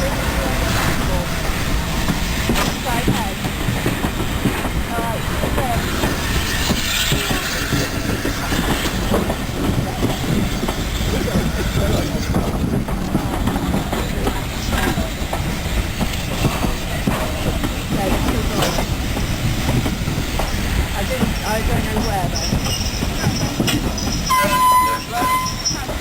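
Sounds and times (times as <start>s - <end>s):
train rumbling on rails: 0.0s - 26.0s.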